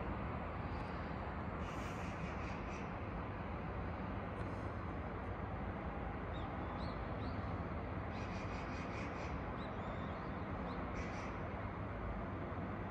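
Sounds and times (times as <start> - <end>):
low city hum: 0.0 - 12.9.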